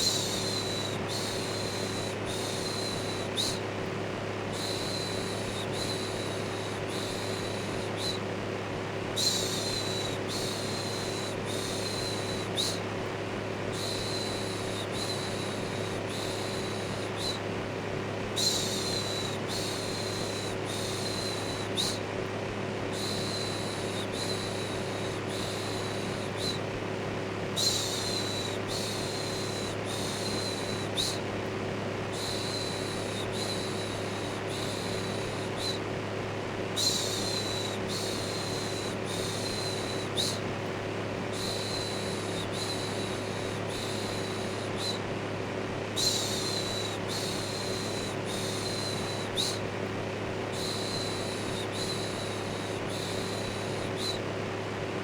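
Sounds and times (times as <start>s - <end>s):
electric fan hum: 0.0s - 55.0s.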